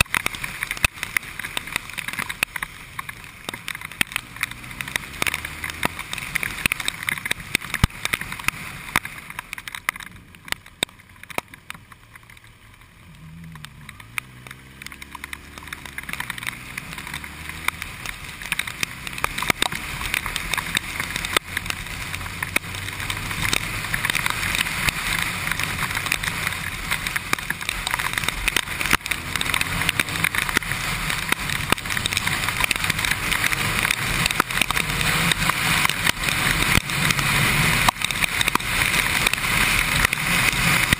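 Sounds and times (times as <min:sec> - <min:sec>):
motorcycle engine revving: 0:00.0 - 0:11.3, 0:12.8 - 0:40.9
raindrops tapping on camera: 0:00.0 - 0:40.9
wind and wet road hiss: 0:00.0 - 0:40.9.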